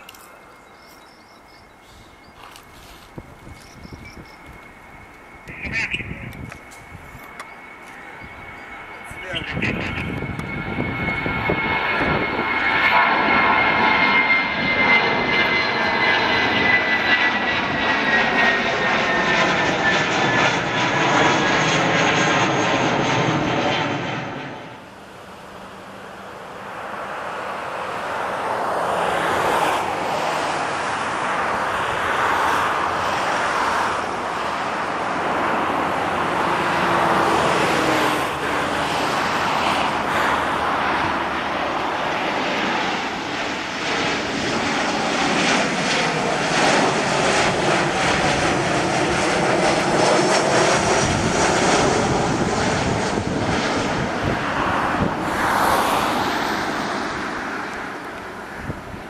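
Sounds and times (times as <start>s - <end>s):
high engine whine: 0.0s - 59.0s
jet airliner passing overhead: 0.0s - 59.0s.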